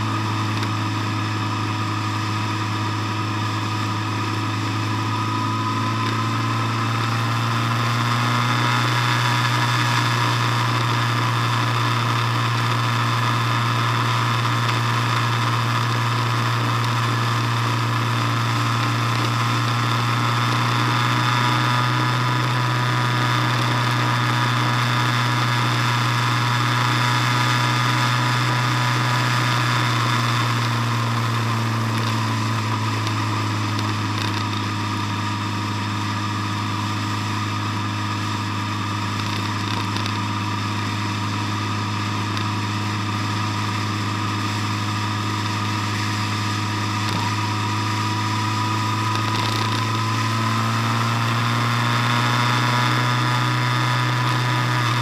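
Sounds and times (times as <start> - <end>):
car engine cruising: 0.0 - 55.0.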